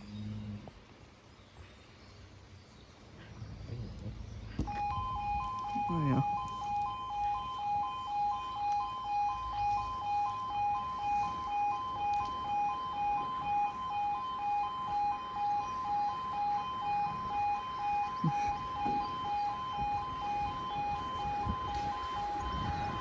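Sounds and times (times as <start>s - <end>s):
two-tone crossing alarm: 4.6s - 23.0s.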